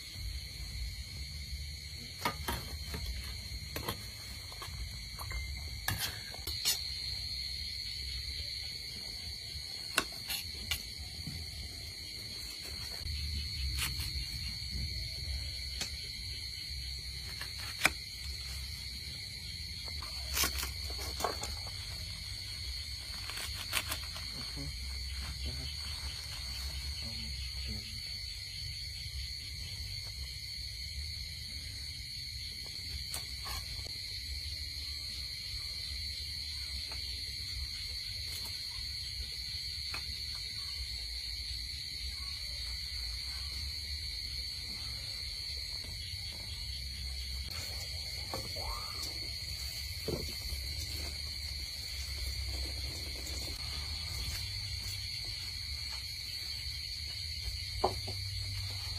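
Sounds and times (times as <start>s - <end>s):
insects droning: 0.0s - 58.9s.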